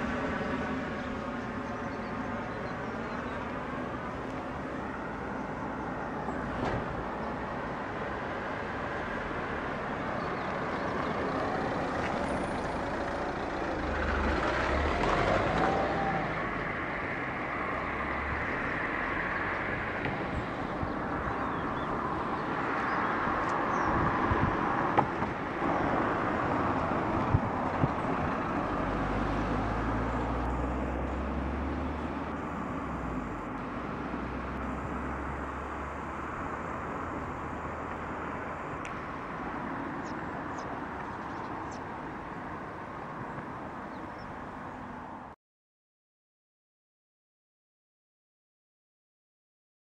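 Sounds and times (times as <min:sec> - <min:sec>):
road traffic passing: 0:00.0 - 0:45.4.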